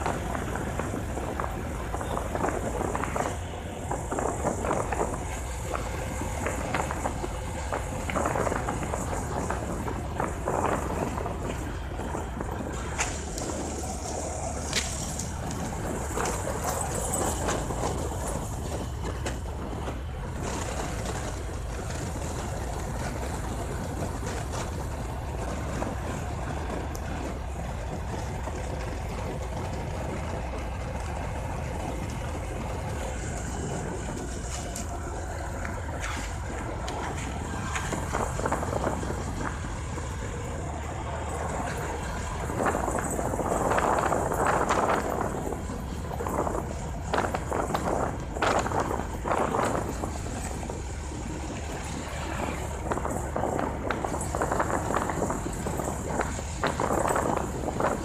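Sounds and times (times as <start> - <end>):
motorcycle engine cruising: 0.0 - 58.0
rushing wind: 0.0 - 58.0
tyre noise: 0.0 - 58.0.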